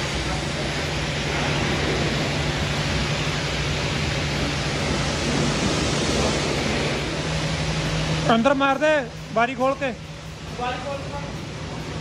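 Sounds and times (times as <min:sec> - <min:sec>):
pressure washer spraying water: 0:00.0 - 0:12.0.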